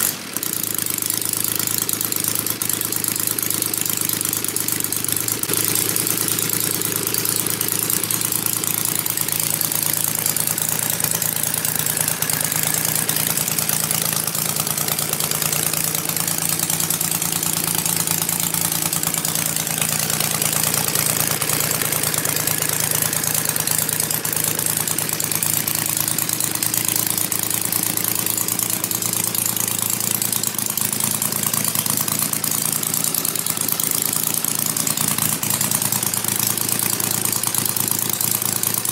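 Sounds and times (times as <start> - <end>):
model aircraft engine running: 0.0 - 38.9.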